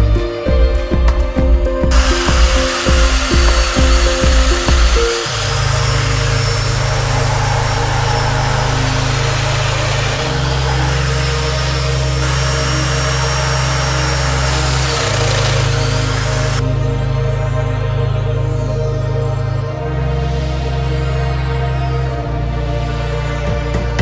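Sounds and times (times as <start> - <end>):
background music with deep bass: 0.0 - 24.0.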